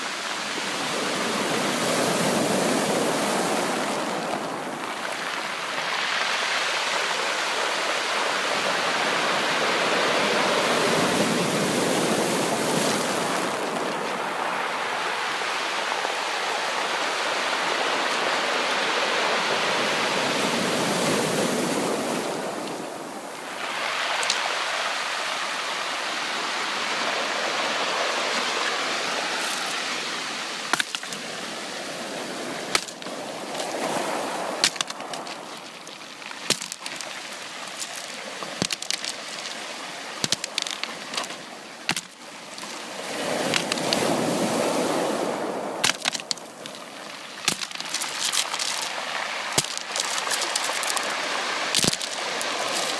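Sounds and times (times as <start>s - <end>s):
ocean waves washing in: 0.0s - 52.9s.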